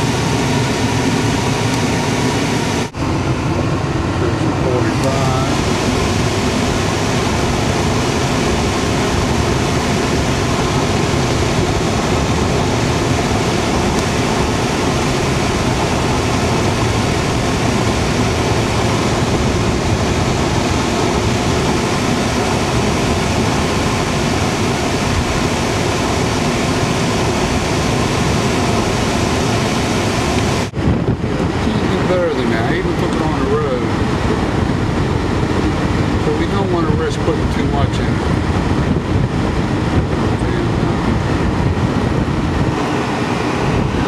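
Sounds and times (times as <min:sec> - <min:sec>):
air conditioning blower: 0:00.0 - 0:44.0
road and wind noise in car cabin: 0:00.0 - 0:44.0.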